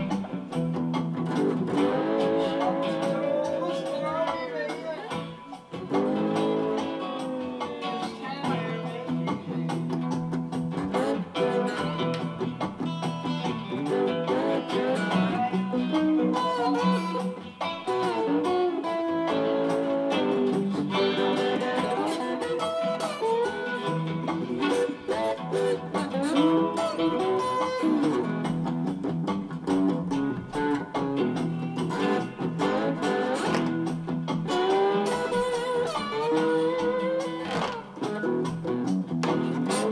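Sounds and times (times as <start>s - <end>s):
acoustic guitar bass line: 0.0s - 39.9s
slide guitar notes: 0.0s - 39.9s.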